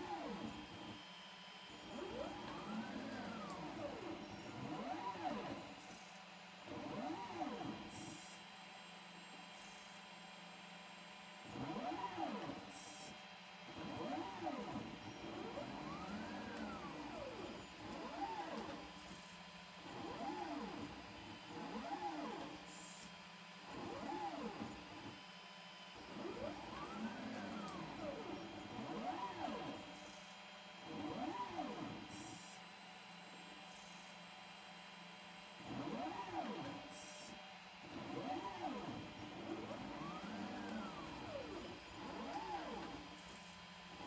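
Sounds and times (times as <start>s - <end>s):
robotic arm motors whining: 0.0s - 8.5s, 11.4s - 19.3s, 19.9s - 23.1s, 23.7s - 25.2s, 25.9s - 34.1s, 35.4s - 44.0s.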